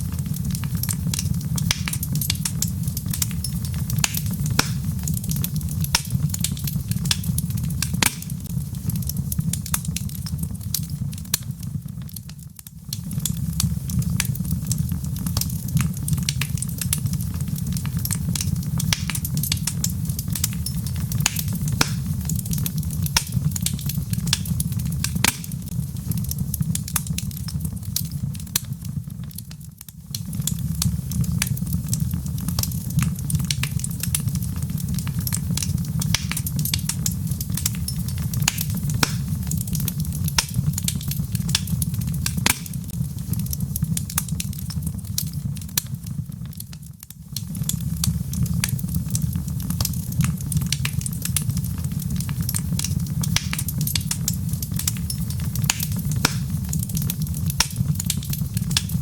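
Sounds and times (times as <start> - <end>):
low rumble of flame: 0.0 - 59.0
wood fire crackling: 0.0 - 59.0.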